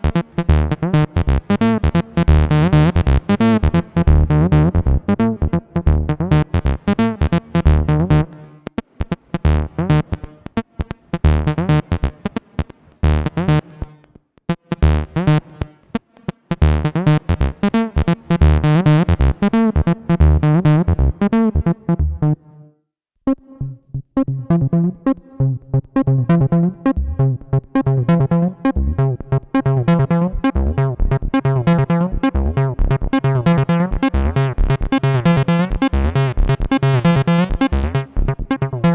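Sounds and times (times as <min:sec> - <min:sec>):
acid synthesizer bassline: 0:00.0 - 0:22.5, 0:23.6 - 0:38.9.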